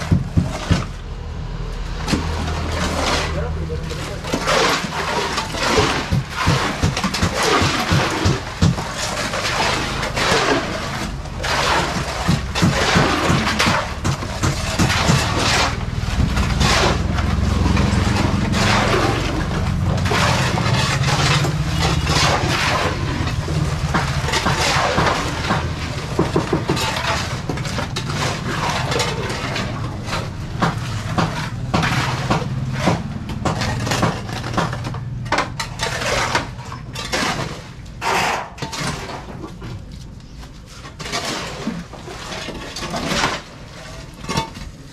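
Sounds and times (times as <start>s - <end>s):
engine running: 0.0s - 37.0s
shovels scraping through gravel: 2.1s - 34.9s, 35.5s - 44.9s.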